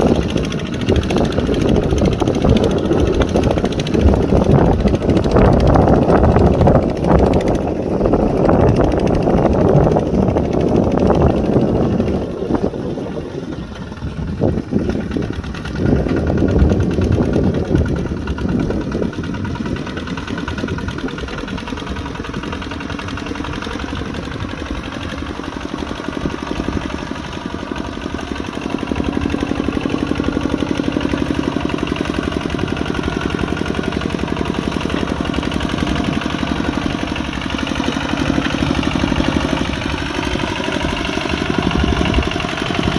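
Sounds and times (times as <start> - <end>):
single-cylinder diesel engine chugging: 0.0 - 42.9.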